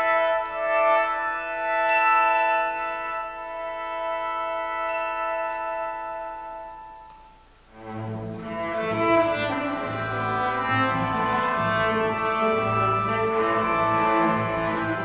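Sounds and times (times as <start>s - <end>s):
low bowed strings: 0.0s - 15.0s
orchestra with free reed solo: 0.0s - 15.0s.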